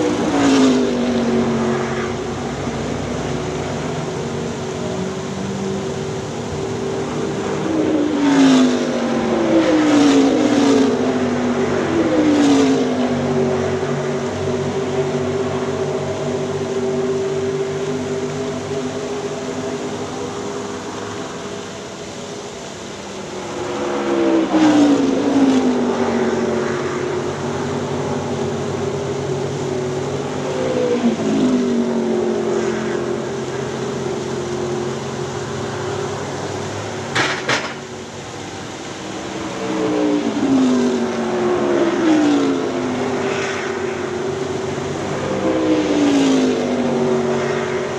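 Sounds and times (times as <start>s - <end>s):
waterfall fountain splashing: 0.0s - 43.3s
car engines passing by: 0.0s - 47.9s.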